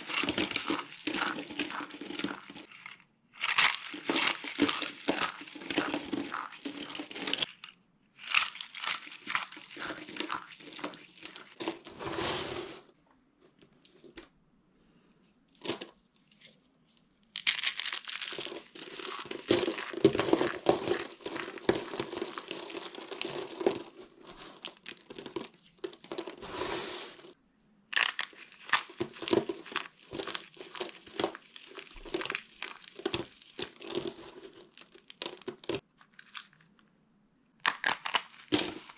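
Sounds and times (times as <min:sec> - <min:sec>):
dry soap crunching and crackling: 0:00.0 - 0:12.2, 0:15.5 - 0:37.0, 0:37.6 - 0:38.9.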